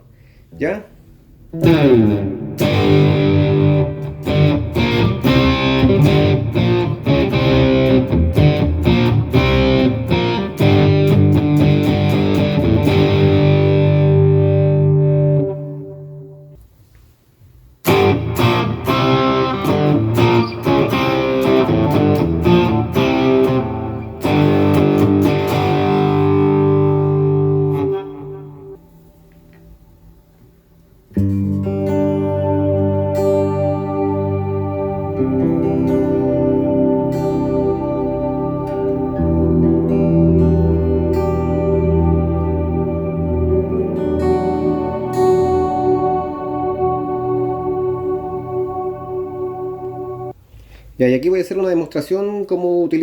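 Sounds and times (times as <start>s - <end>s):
electric guitar notes and chords: 1.5s - 16.6s, 17.8s - 50.4s.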